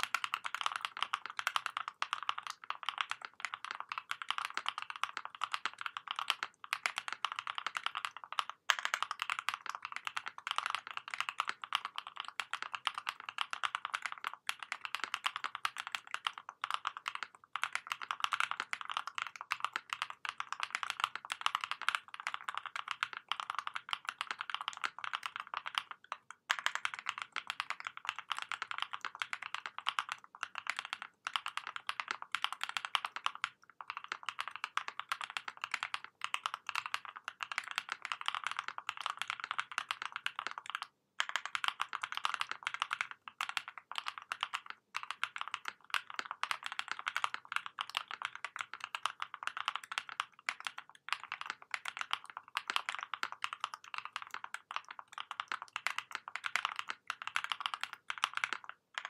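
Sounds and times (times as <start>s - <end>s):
mechanical keyboard typing: 0.0s - 59.0s.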